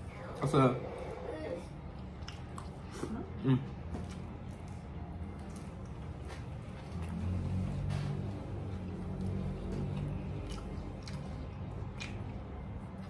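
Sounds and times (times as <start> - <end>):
people chewing: 0.0 - 13.0
steady low hum: 0.0 - 13.0.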